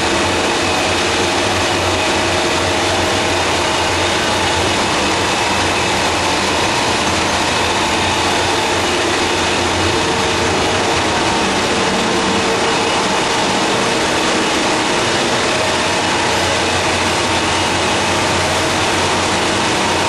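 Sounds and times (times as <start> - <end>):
industrial machinery hiss and hum: 0.0 - 20.0.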